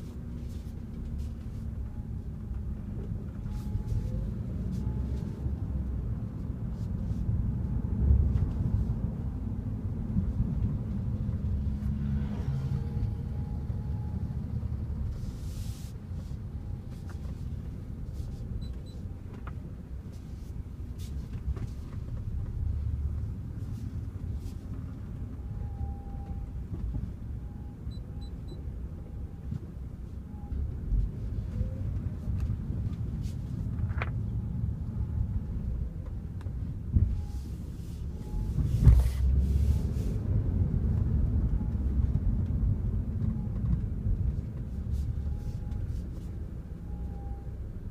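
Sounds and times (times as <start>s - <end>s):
car engine low rumble: 0.0s - 47.9s.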